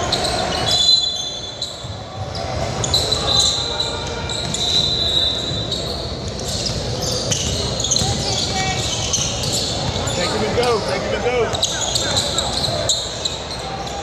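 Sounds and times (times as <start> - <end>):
sneakers squeaking on gym floor: 0.0 - 14.0
voices in large hall: 0.0 - 14.0.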